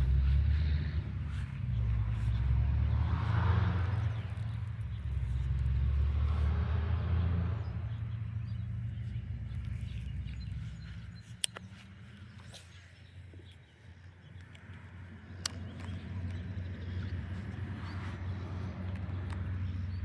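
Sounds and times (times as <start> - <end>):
low vehicle engine rumble: 0.0 - 20.0.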